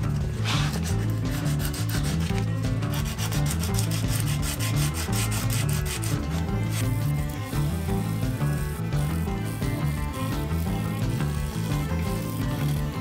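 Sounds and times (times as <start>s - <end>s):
background music: 0.0s - 13.0s
sandpaper rubbing on wood: 0.1s - 13.0s.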